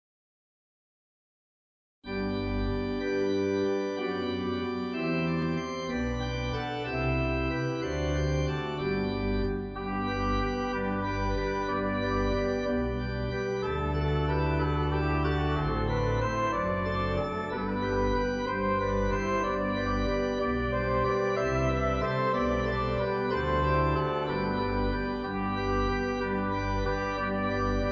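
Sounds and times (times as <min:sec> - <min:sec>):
pipe organ music: 0:02.1 - 0:27.9.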